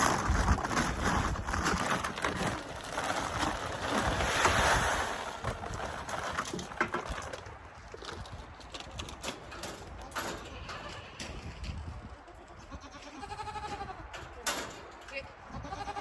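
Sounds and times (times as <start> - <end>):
wind gusting across microphone: 0.0 - 16.0.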